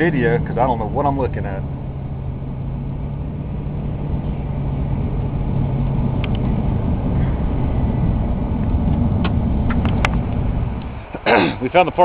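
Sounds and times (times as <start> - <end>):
car engine rumble: 0.0 - 12.0
road noise inside car: 0.0 - 12.0.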